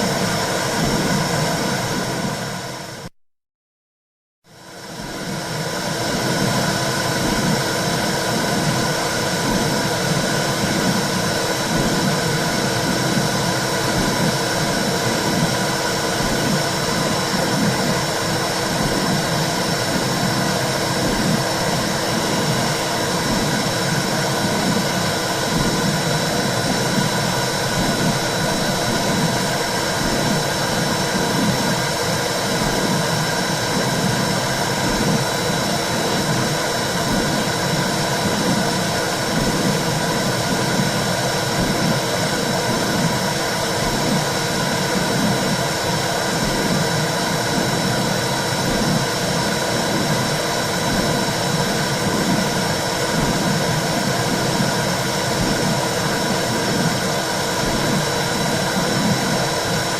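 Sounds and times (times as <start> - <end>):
steady rushing noise: 4.9 - 59.9.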